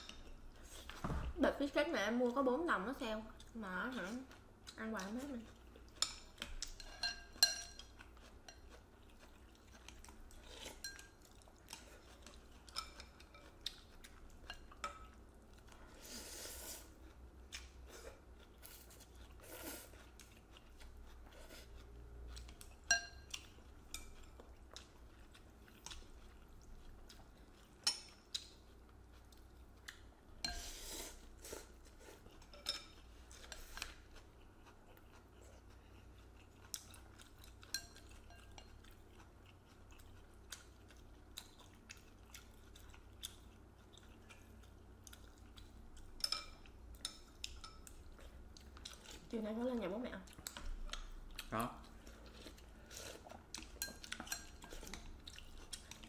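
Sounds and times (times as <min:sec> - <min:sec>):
chewing: 0:03.3 - 0:16.2, 0:16.8 - 0:49.5, 0:50.2 - 0:56.0.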